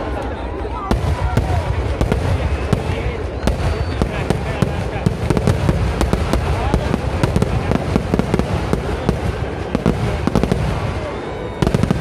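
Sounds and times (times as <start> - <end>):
firecracker bangs: 0.9 - 12.0.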